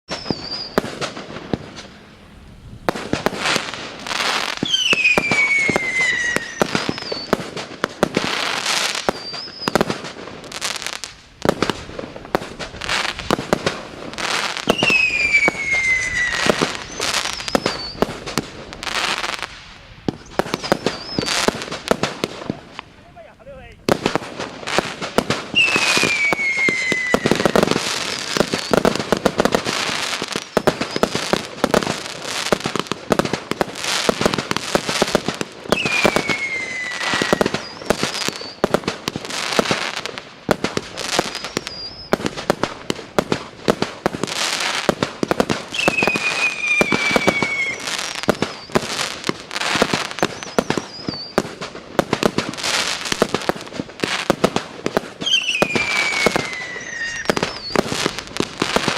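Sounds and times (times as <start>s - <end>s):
falling firework whistle: 0.1s - 1.8s, 2.9s - 11.8s, 12.4s - 19.5s, 20.1s - 22.6s, 24.0s - 40.0s, 40.6s - 42.8s, 44.1s - 58.9s
fireworks launching and bursting: 0.1s - 58.9s.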